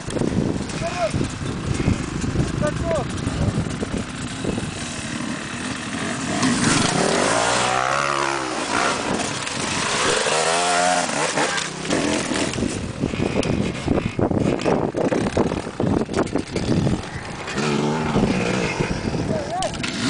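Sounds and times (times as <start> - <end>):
dirt bike engine revving: 0.7 - 20.0.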